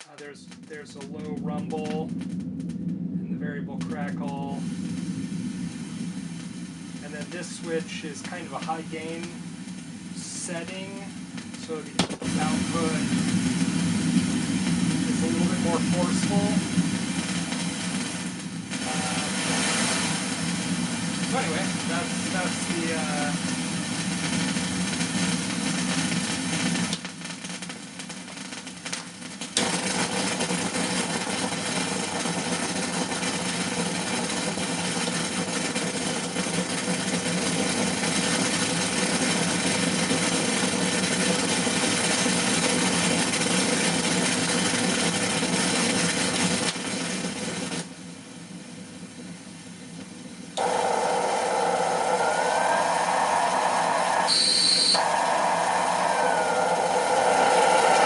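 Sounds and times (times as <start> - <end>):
mid-pitched band of sound: 0.0 - 46.7, 50.6 - 58.0
white noise hiss with crackle: 0.0 - 58.0.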